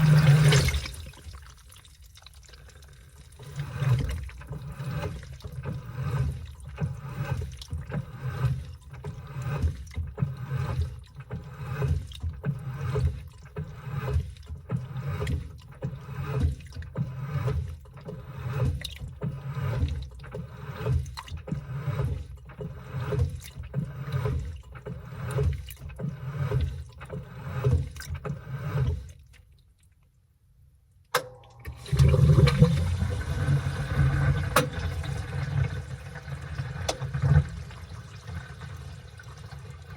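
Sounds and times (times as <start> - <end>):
washing machine sloshing laundry: 0.0 - 30.0, 31.3 - 39.9.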